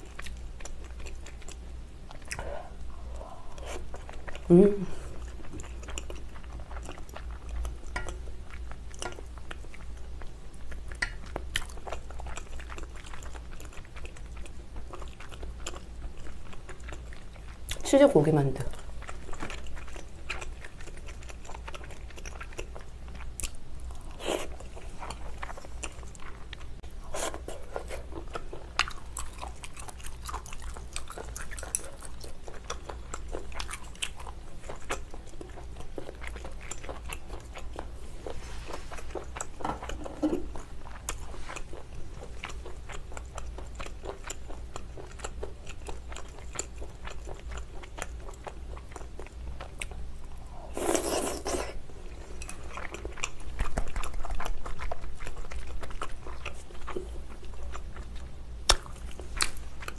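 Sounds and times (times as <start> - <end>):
chewing with wet smacks: 0.0 - 17.9, 18.7 - 50.4, 51.0 - 59.9.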